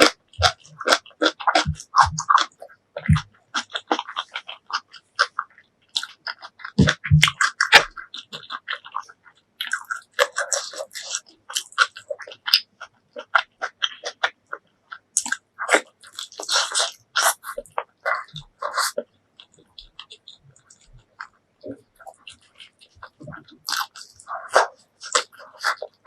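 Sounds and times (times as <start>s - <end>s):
chewing and biting food: 0.0s - 26.0s.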